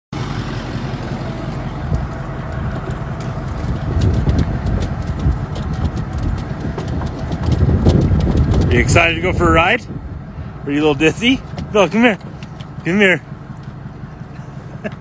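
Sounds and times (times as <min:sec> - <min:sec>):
vehicle engine rumbling: 0:00.1 - 0:15.0.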